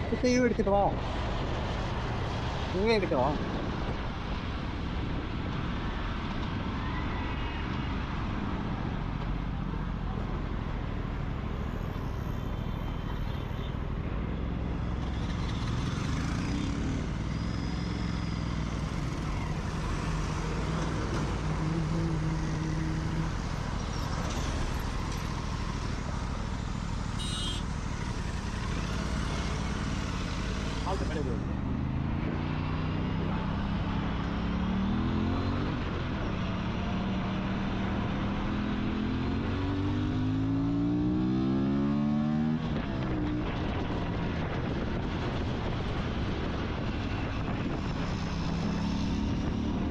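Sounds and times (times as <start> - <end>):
wind and road noise: 0.0 - 49.9.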